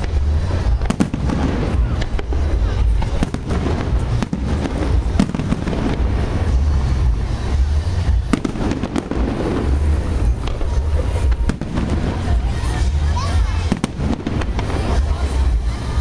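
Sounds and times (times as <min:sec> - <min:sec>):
fireworks booming: 0:00.0 - 0:16.0
sharp firework cracks: 0:00.0 - 0:16.0.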